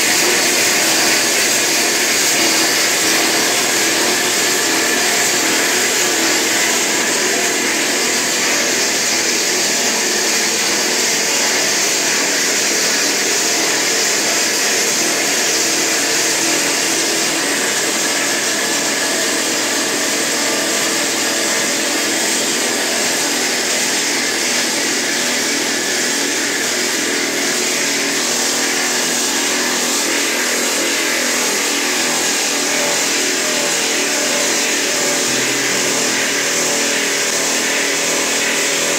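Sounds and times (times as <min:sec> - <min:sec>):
drilling machine hissing and humming: 0:00.0 - 0:38.9.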